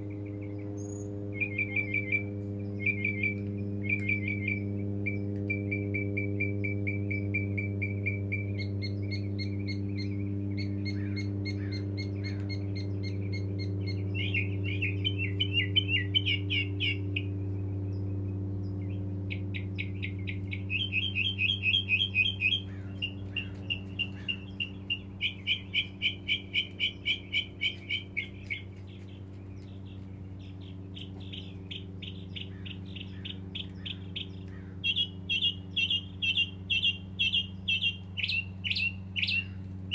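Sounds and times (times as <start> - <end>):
mockingbird singing: 0.0 - 39.9.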